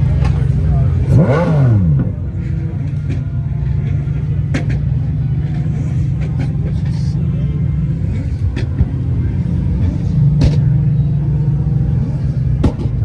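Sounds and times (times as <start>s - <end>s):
car engine revving and idling: 0.0s - 13.0s.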